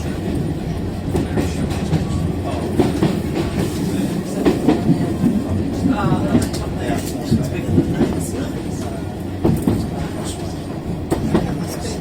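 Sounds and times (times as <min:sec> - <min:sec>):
train coach rumbling on track: 0:00.0 - 0:12.0.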